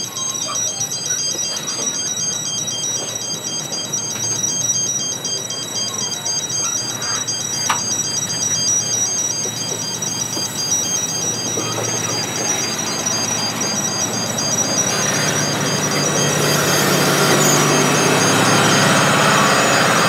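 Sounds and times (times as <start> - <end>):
level crossing alarm warbling: 0.0 - 20.0
train wagons rumbling: 0.0 - 20.0.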